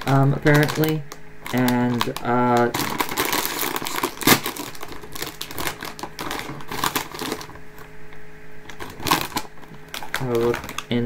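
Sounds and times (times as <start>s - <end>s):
plastic bag crinkling: 0.0s - 7.9s, 8.6s - 11.0s
faint steady hum: 0.0s - 11.0s.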